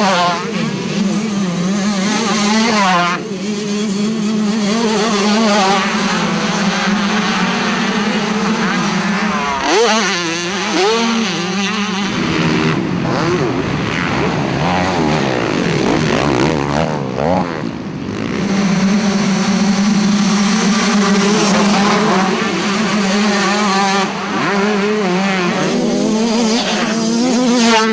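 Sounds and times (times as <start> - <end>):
dirt bike engines revving: 0.0 - 27.9.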